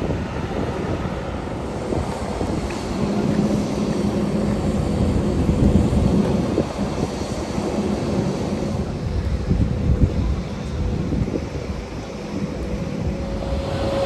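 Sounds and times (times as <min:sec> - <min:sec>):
aircraft engine rumble: 0:00.0 - 0:14.0
wind buffeting microphone: 0:00.0 - 0:14.0.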